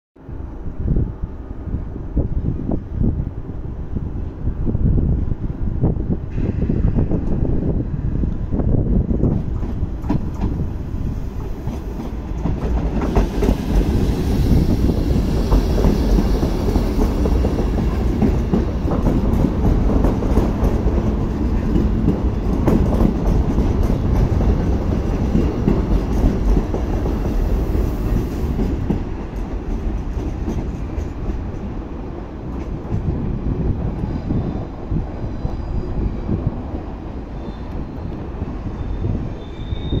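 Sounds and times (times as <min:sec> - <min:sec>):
train wheels rumbling and clicking: 0:04.2 - 0:40.0.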